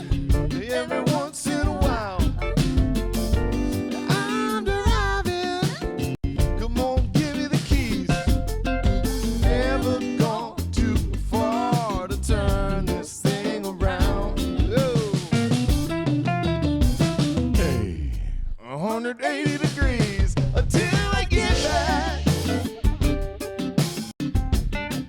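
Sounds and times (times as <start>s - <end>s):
song with drums guitar and bass: 0.0s - 18.0s, 19.5s - 25.0s.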